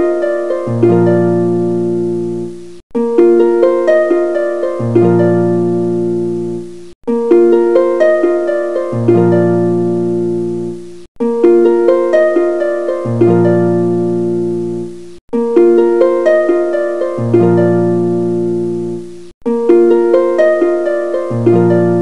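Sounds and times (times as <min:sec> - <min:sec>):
plucked string music: 0:00.0 - 0:22.0.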